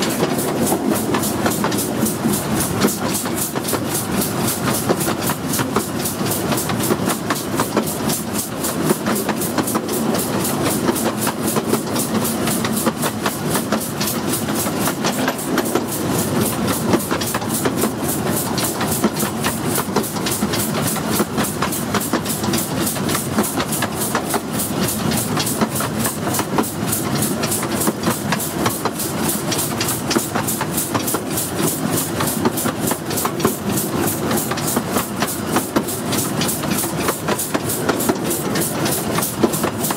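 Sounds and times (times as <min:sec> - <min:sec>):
steam locomotive beats: 0:00.0 - 0:39.9
steam train wheels clattering: 0:00.0 - 0:39.9.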